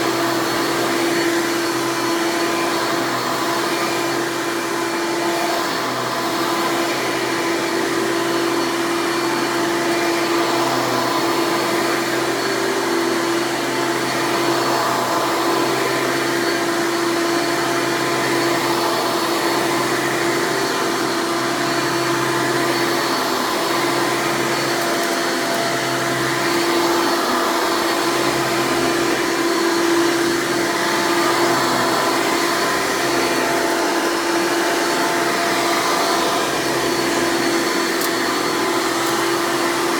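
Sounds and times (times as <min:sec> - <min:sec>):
upright vacuum whine: 0:00.0 - 0:39.9.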